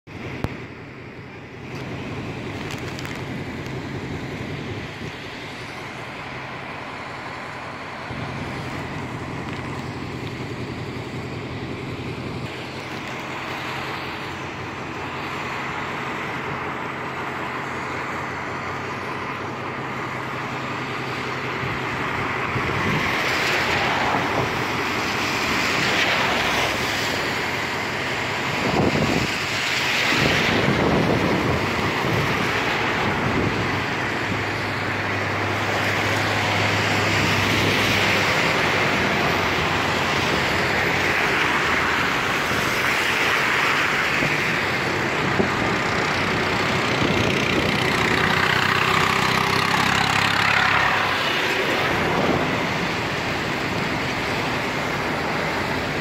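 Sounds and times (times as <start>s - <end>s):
low engine hum: 0.1s - 56.0s
tyres hissing on wet road: 0.1s - 56.0s.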